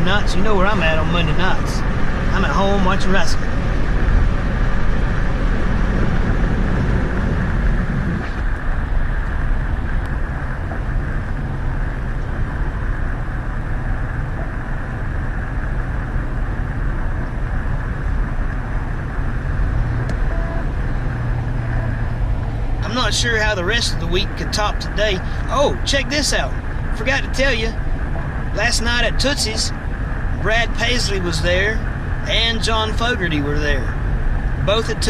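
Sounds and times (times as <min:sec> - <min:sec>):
car road and engine noise: 0:00.0 - 0:35.0.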